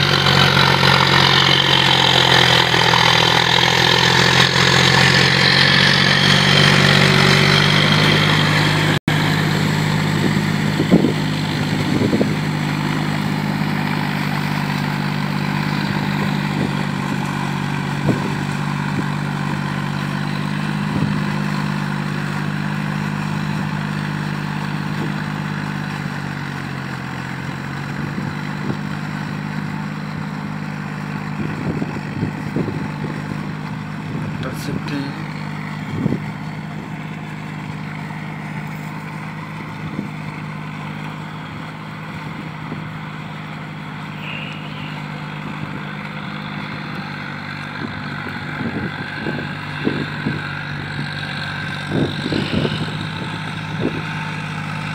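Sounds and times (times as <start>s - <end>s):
tractor diesel engine under load: 0.0s - 54.9s
wheels churning through mud: 0.0s - 54.9s.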